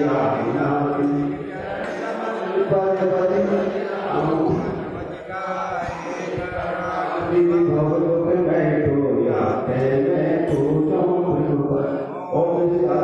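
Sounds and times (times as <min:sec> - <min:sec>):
man chanting into microphone: 0:00.0 - 0:13.0.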